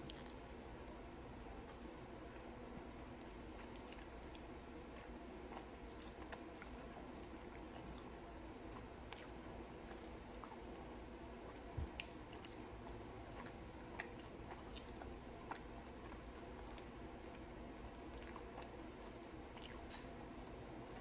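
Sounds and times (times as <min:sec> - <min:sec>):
faint steady background noise: 0:00.0 - 0:21.0.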